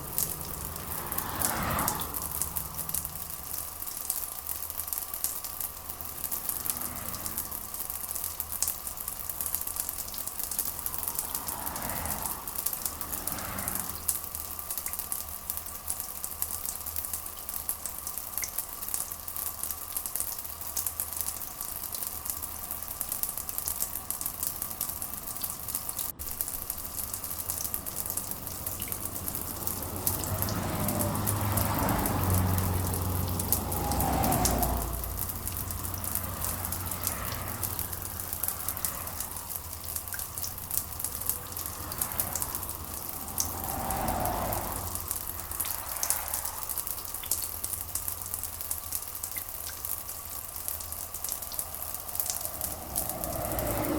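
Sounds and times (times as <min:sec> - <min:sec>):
steady rain pattering: 0:00.0 - 0:53.9.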